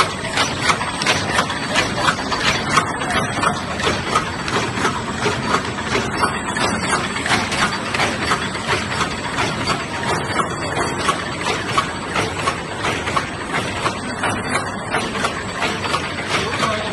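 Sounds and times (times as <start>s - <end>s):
machine clattering clicks: 0.0s - 16.9s
machine hum: 0.0s - 16.9s.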